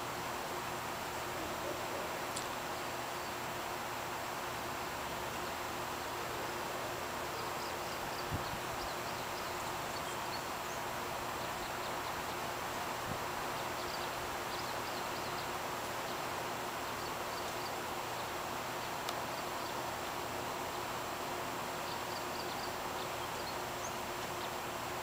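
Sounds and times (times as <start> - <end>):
rushing outdoor background noise: 0.0 - 25.0.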